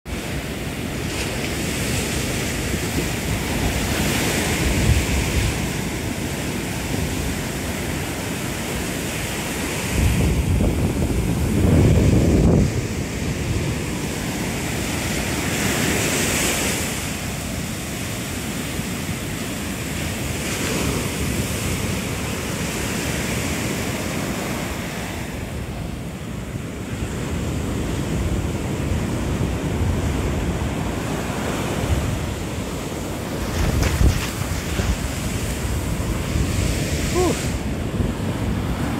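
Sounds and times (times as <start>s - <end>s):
wind noise on microphone: 0.1s - 26.2s, 26.8s - 38.9s
ocean surf breaking: 0.1s - 38.9s.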